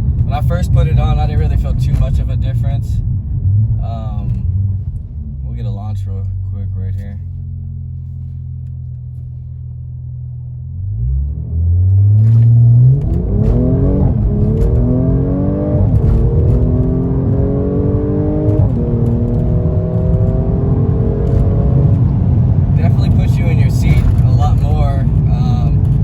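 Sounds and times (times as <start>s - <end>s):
car accelerating and shifting gears: 0.0s - 26.0s
car engine idling and revving: 0.0s - 26.0s.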